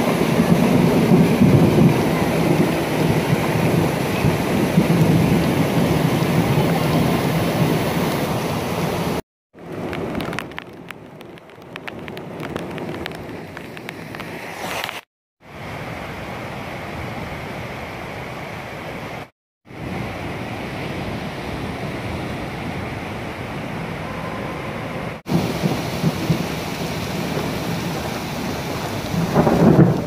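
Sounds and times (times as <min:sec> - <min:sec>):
flood water rushing over rocks: 0:00.0 - 0:30.0
rain: 0:00.0 - 0:30.0.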